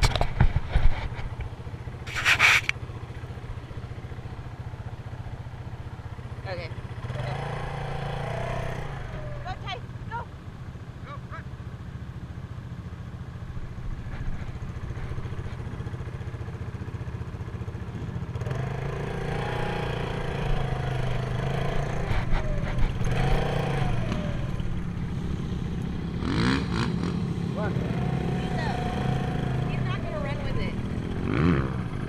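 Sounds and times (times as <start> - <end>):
quad engine running: 0.0 - 32.0.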